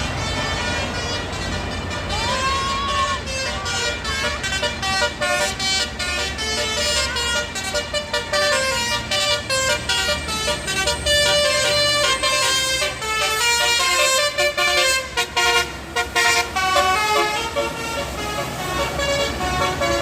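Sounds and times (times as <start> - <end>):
bus horn playing melody: 0.0 - 20.0.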